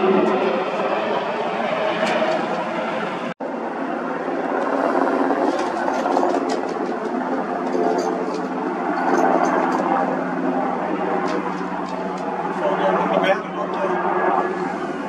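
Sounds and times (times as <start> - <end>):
helicopter rotor chop and engine: 0.0 - 15.0.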